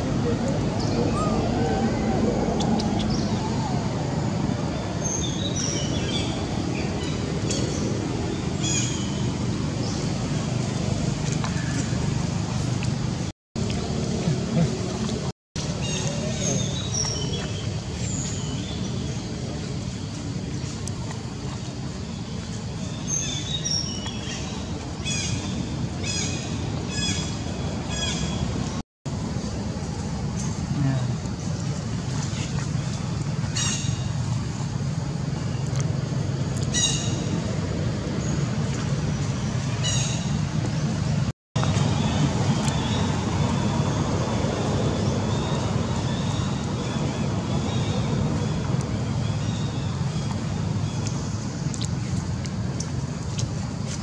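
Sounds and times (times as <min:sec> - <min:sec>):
low background rumble: 0:00.0 - 0:54.0.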